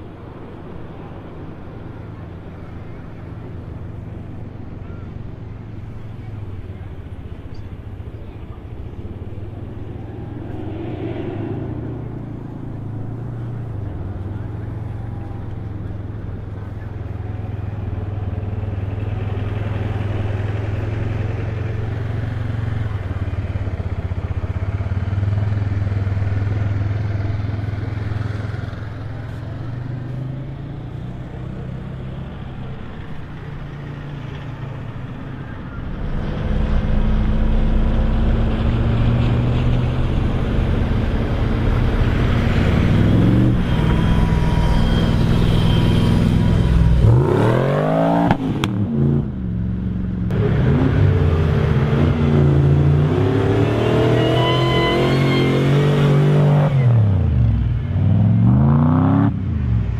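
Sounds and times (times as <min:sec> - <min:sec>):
car engine revving: 0:05.6 - 0:59.9.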